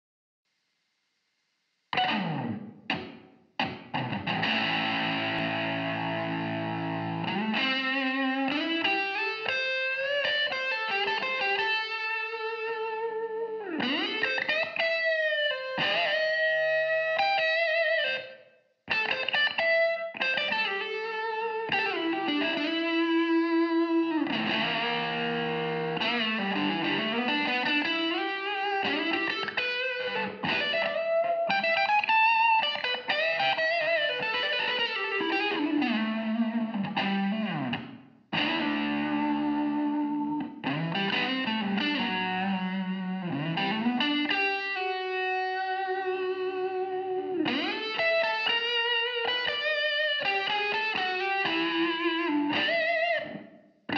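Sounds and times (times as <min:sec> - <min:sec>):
electric guitar lead line: 0:01.9 - 0:53.9.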